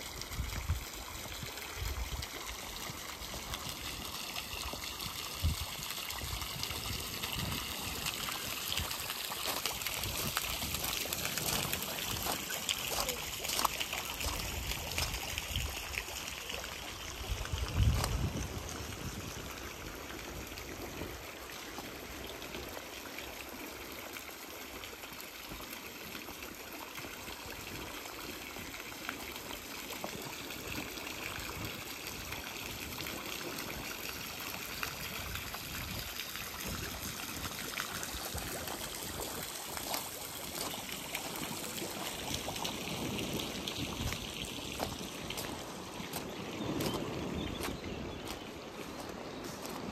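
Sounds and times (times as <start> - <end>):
water trickling and splashing: 0.0 - 49.9.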